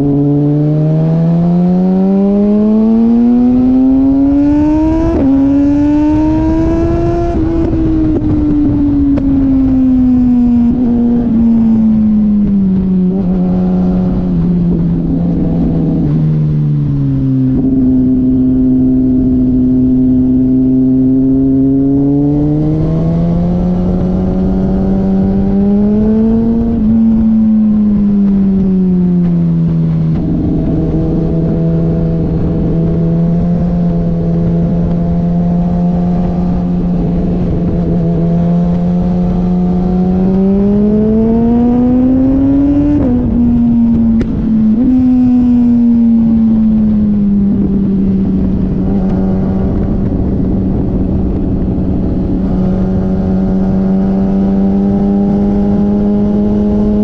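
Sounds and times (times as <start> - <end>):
motorcycle engine: 0.0 - 57.0
steady rushing noise: 2.8 - 57.0.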